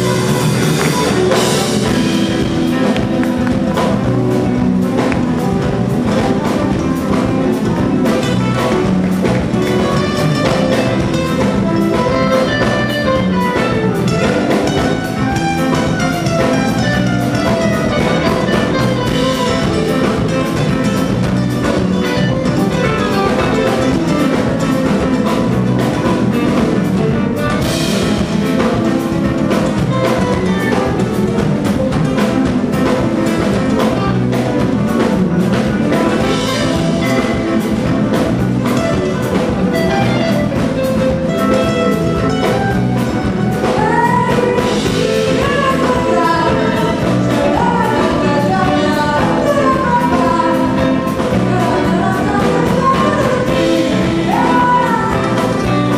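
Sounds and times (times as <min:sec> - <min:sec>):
drum kit steady beat: 0:00.0 - 0:55.9
electric guitars: 0:00.0 - 0:55.9.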